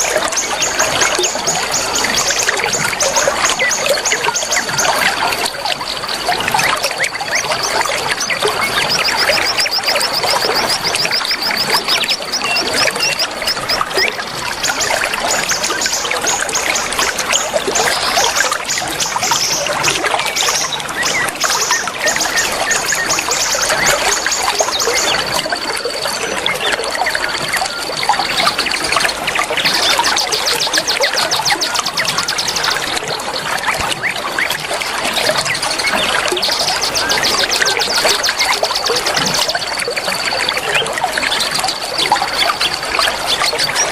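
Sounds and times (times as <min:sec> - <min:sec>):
small birds chirping and trilling: 0:00.0 - 0:43.9
water trickling: 0:00.0 - 0:43.9.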